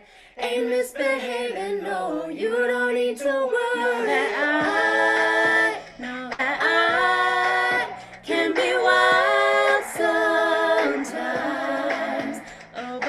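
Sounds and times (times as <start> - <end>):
women singing in harmony: 0.0 - 13.0.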